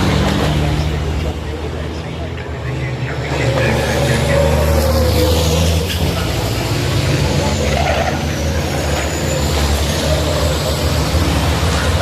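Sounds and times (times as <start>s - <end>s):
diesel truck engines running hard: 0.0s - 12.0s.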